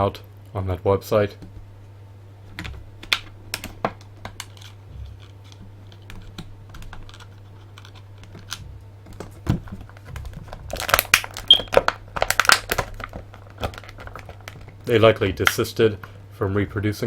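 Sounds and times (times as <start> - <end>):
plastic packaging crackling: 2.5 - 16.2.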